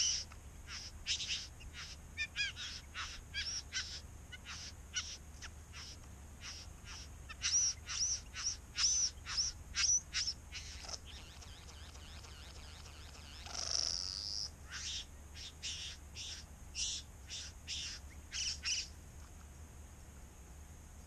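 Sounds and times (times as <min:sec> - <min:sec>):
bird buzzing calls: 0:00.0 - 0:18.9.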